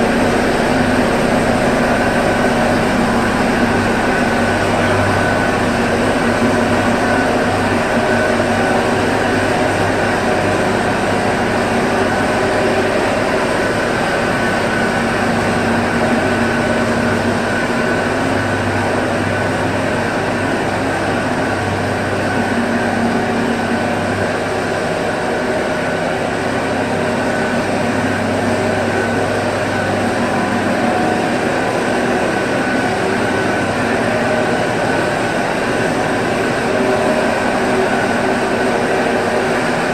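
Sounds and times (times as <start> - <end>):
grinding machine drone: 0.0 - 39.9.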